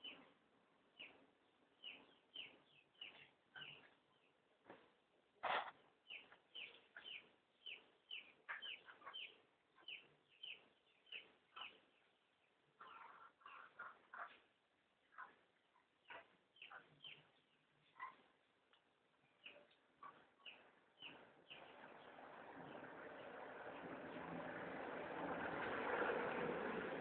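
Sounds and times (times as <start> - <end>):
faint bird chirping: 0.0 - 4.5, 5.4 - 24.9.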